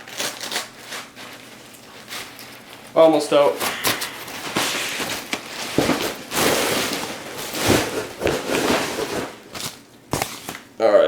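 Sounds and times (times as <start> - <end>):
plastic packaging rustling and crackling: 0.0 - 10.7.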